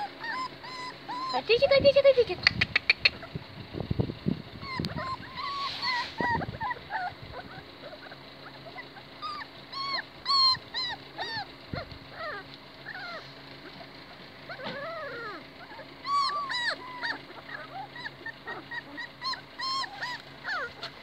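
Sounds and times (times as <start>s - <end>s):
puppies whimpering and whining: 0.0s - 3.5s, 4.4s - 21.0s.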